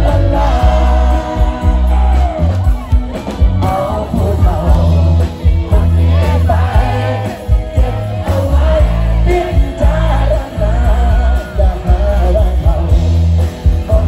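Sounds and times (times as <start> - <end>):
man singing into microphone: 0.0 - 2.5, 3.4 - 14.0
drum beats: 0.0 - 14.0
electric guitars: 0.0 - 14.0
heavy bass: 0.0 - 14.0.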